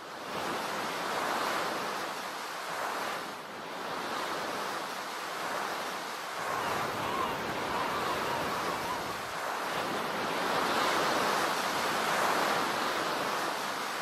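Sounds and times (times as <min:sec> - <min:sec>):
ocean waves rushing: 0:00.5 - 0:14.0.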